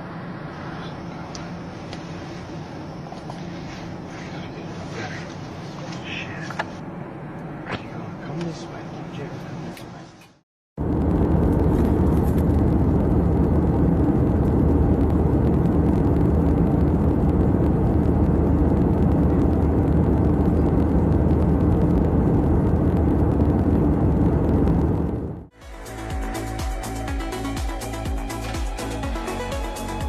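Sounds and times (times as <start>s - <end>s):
vehicle rumble in motion: 0.0s - 30.0s.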